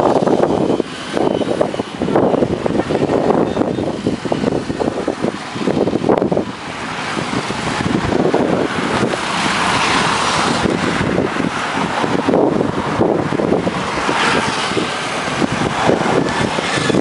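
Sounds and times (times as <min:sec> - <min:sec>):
passing vehicle engine and tyres: 0:00.0 - 0:17.0
wind buffeting microphone: 0:00.0 - 0:17.0.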